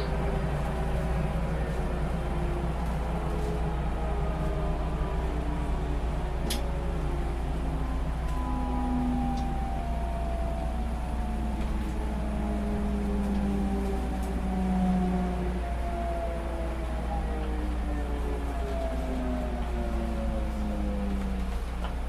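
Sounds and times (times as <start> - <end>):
faint whining tones: 0.0 - 22.0
train running low rumble: 0.0 - 22.0.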